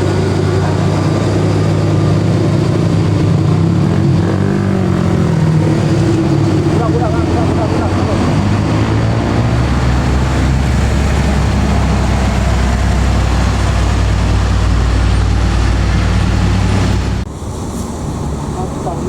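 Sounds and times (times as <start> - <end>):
diesel bus engine running: 0.0 - 19.0.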